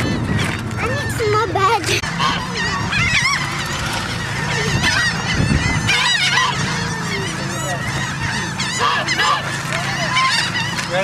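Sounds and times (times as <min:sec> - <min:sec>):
waterbirds honking and calling: 0:00.0 - 0:11.0.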